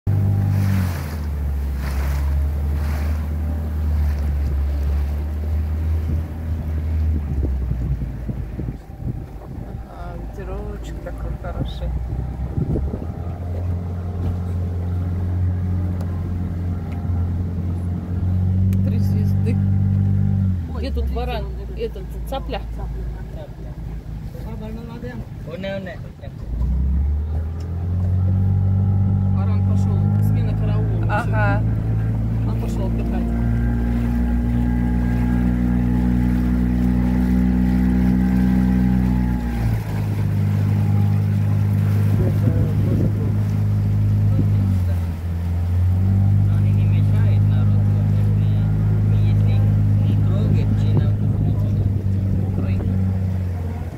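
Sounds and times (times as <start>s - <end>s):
boat motor humming: 0.0s - 53.9s.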